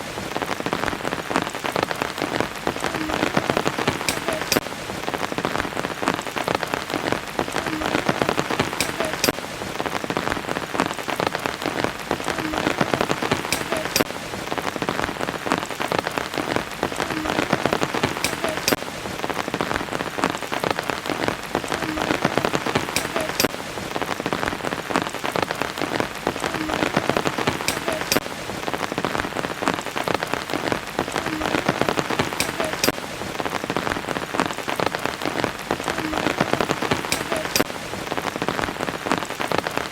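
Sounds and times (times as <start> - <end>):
raindrops clicking: 0.0 - 39.9
steady rain falling: 0.0 - 39.9.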